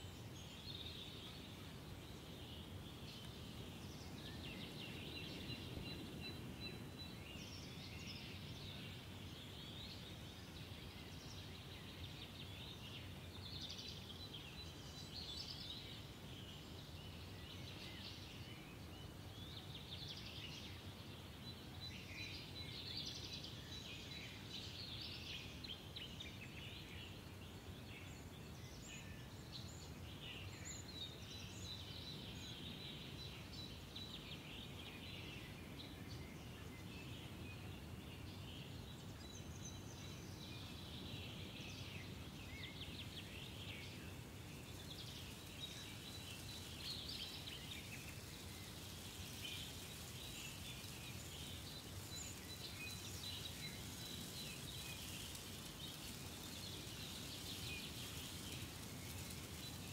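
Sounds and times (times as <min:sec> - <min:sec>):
birds chirping and twittering: 0:00.0 - 0:59.9.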